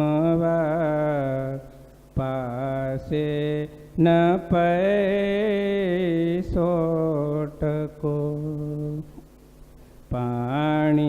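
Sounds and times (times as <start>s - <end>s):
man chanting: 0.0s - 9.1s, 10.1s - 11.0s.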